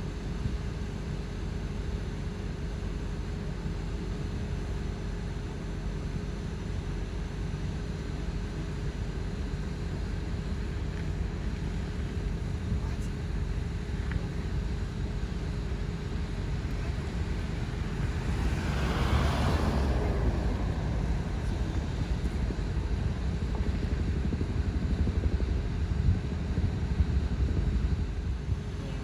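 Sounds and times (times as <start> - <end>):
vehicle road and engine rumble: 0.0 - 29.0.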